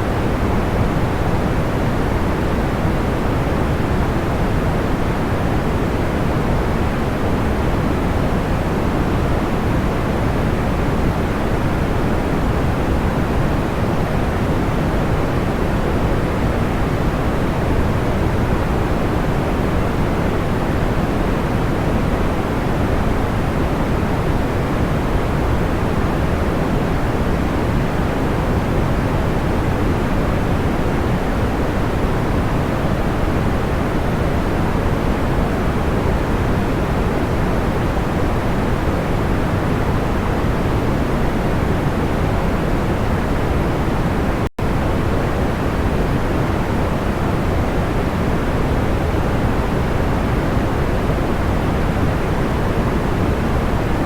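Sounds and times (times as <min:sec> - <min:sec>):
soft pink noise: 0:00.0 - 0:54.0.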